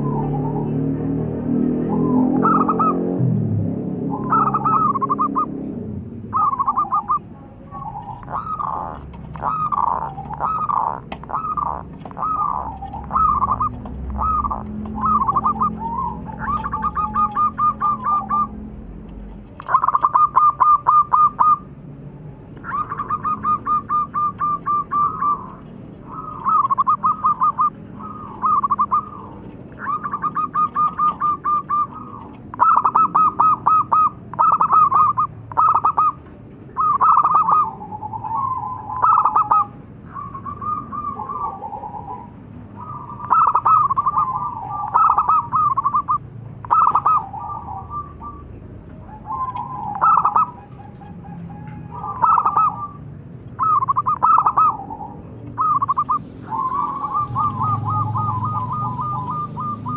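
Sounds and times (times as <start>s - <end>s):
dove cooing in staccato notes: 0.0s - 3.2s, 4.0s - 21.8s, 22.6s - 59.9s.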